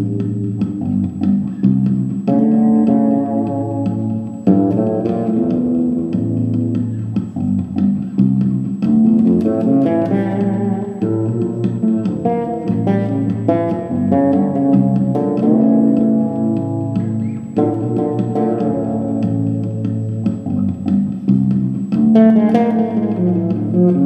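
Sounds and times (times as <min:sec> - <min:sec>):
fretless bass plucked line: 0:00.0 - 0:24.0
looped bass playback: 0:00.0 - 0:24.0.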